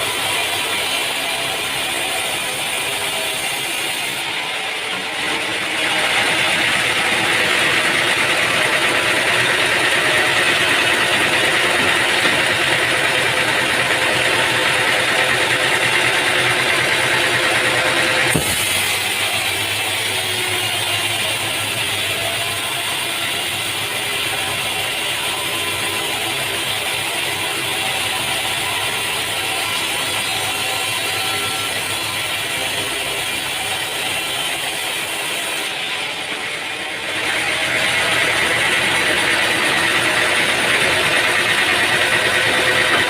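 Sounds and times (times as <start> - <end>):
sawmill machinery running: 0.0 - 43.0.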